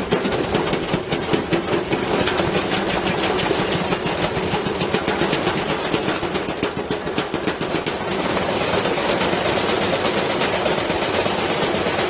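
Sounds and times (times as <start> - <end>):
washing machine hum: 0.0 - 12.0.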